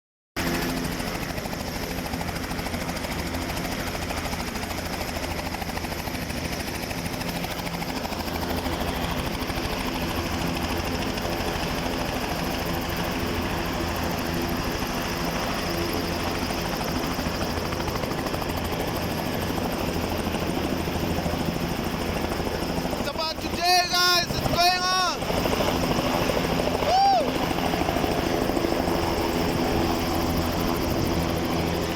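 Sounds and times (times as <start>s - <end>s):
helicopter engine and rotor: 0.4s - 31.9s.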